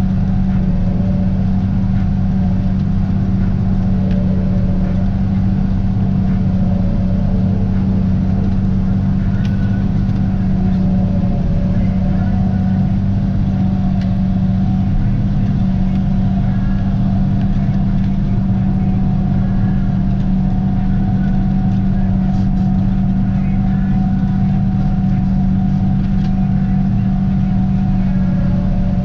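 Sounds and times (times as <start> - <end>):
tractor engine running under load: 0.0 - 29.0.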